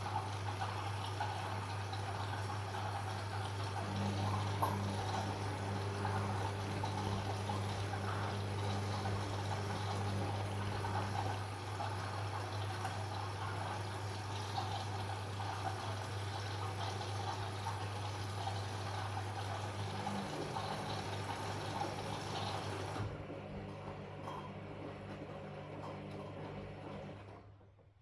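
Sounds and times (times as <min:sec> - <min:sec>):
washing machine hum: 0:00.0 - 0:28.0
water rushing in washing machine: 0:00.0 - 0:28.0.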